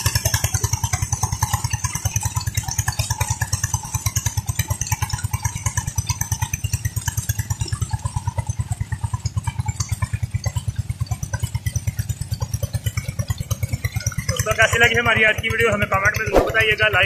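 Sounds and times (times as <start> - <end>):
diesel pump engine running: 0.0 - 17.0.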